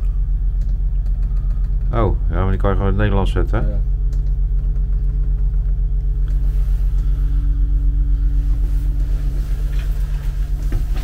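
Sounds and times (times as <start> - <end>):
boat engine rumbling: 0.0 - 11.0
faint high hum: 0.0 - 11.0.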